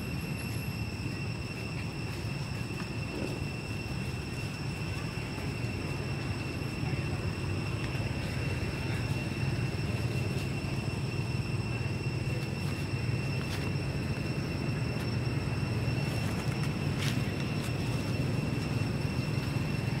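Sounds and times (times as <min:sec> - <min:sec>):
high-pitched steady whine: 0:00.0 - 0:20.0
low outdoor rumble: 0:00.0 - 0:20.0.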